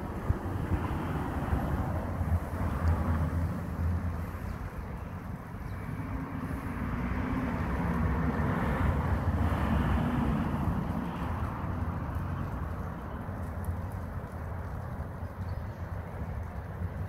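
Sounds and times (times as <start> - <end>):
vehicle humming: 0.0 - 15.3
road traffic rumble: 0.0 - 17.0
wind on microphone: 0.0 - 17.0.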